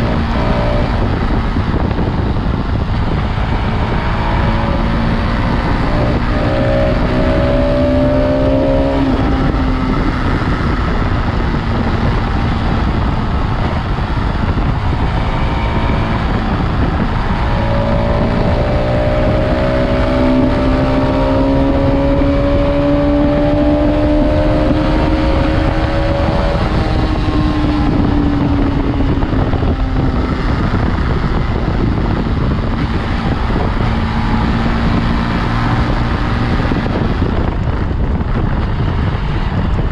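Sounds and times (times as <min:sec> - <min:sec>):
motorcycle engine accelerating: 0:00.0 - 0:39.9
wind blast on microphone: 0:00.0 - 0:39.9.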